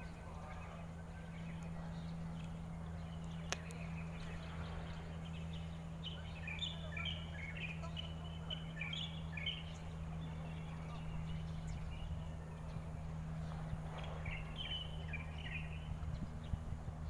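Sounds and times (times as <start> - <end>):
steady low hum: 0.0 - 17.0
birds chirping quick high notes: 0.7 - 16.6.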